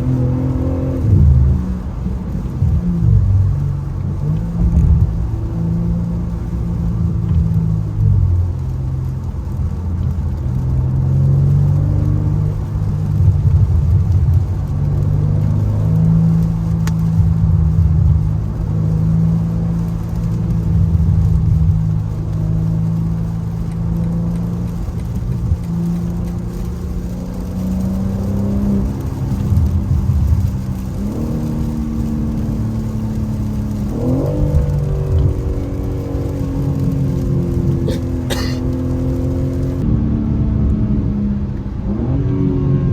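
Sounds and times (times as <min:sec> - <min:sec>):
car engine and exhaust running: 0:00.0 - 0:42.9.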